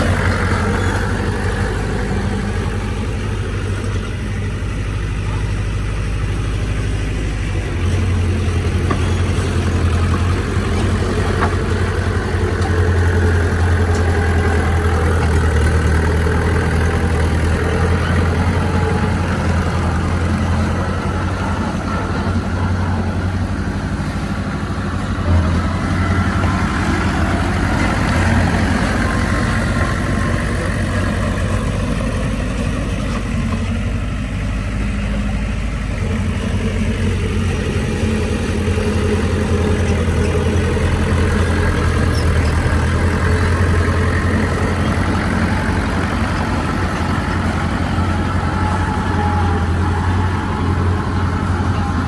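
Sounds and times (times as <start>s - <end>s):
heavy diesel engine under load: 0.0s - 52.0s.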